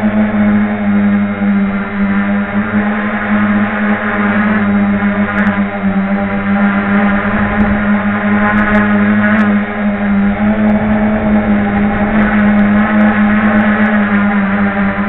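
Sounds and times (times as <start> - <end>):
drone motors buzzing: 0.0 - 15.0.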